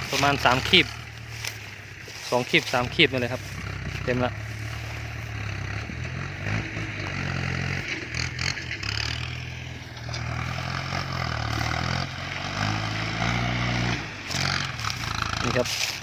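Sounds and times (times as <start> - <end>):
cane stalks scraping and clattering: 0.0 - 16.0
diesel engine running: 0.0 - 16.0.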